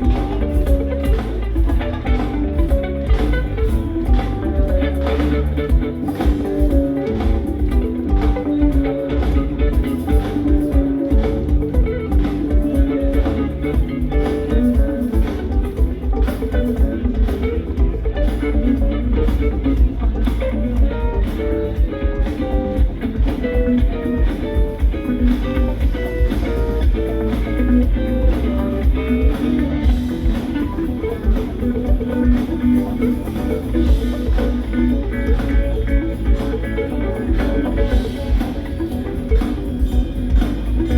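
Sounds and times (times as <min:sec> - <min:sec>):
electric guitar runs: 0:00.0 - 0:40.9
live rock band: 0:00.0 - 0:40.9.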